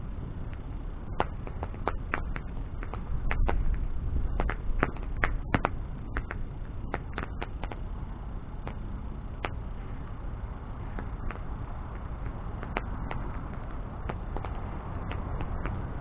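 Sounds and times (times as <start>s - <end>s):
bonfire flame rushing: 0.0s - 16.0s
burning wood crackling and popping: 0.0s - 16.0s.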